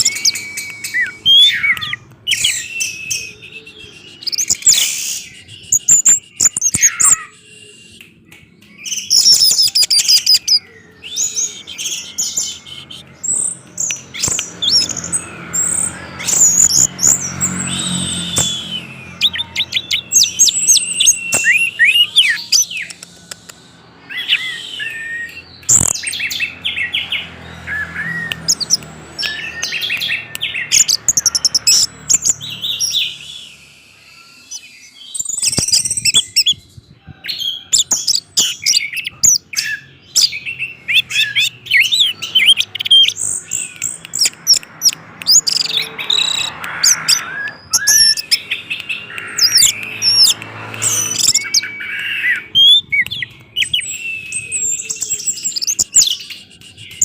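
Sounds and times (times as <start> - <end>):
thrush singing: 0.0 - 36.0, 38.2 - 57.0.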